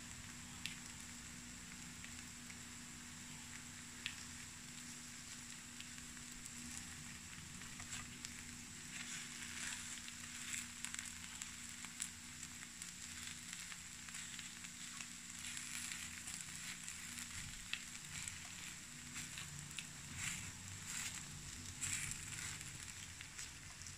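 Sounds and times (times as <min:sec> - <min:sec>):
batter balls sizzling in pan: 0:00.0 - 0:23.9.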